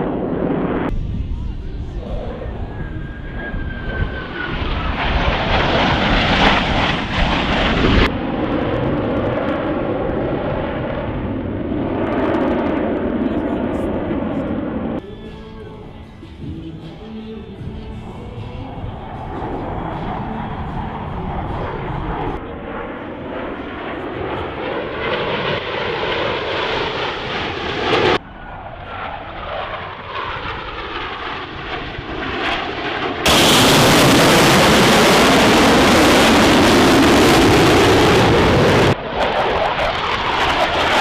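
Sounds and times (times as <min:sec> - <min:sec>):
jets flying past overhead: 0:00.0 - 0:15.0, 0:18.6 - 0:41.0.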